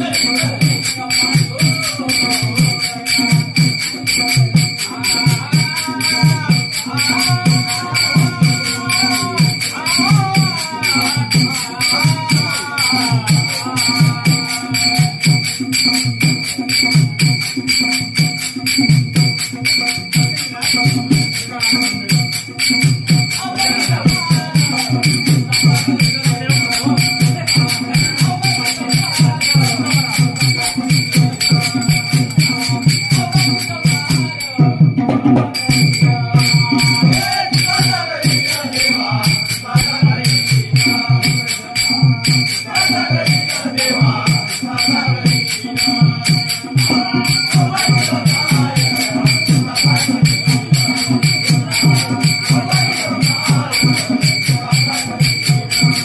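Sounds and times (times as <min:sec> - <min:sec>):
brass hand cymbals: 0:00.0 - 0:56.0
drum: 0:00.0 - 0:56.0
group singing: 0:00.0 - 0:56.0.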